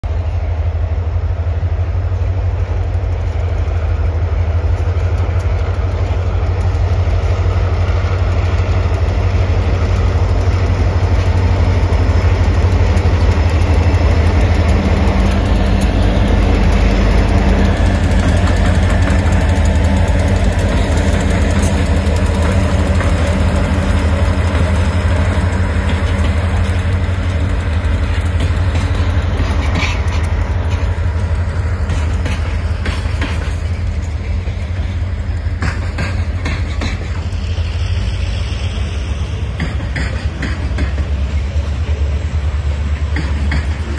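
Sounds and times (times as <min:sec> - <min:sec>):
diesel locomotive rumbling past: 0:00.0 - 0:43.9
freight cars clicking: 0:02.1 - 0:43.9.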